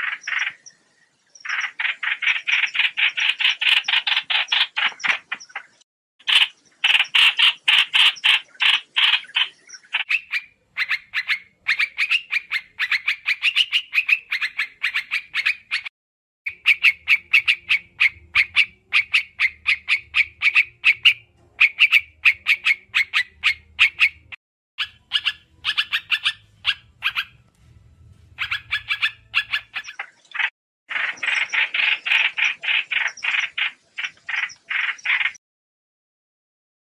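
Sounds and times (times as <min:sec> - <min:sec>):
songbird rapid repeated calls: 0:00.0 - 0:15.9, 0:16.5 - 0:27.4, 0:28.2 - 0:35.4.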